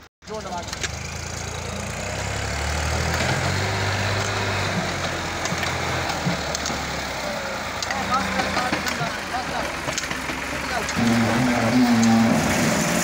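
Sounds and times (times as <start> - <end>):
tractor diesel engine running: 0.2 - 13.0.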